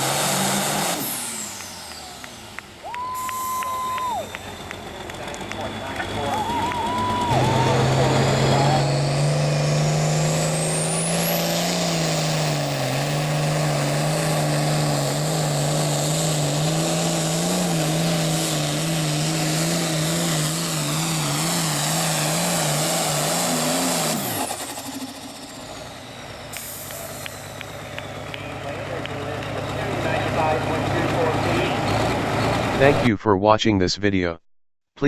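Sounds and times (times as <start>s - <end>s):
turbo whine winding down: 0.0s - 29.1s
diesel tractor engine at high rpm: 0.0s - 33.1s.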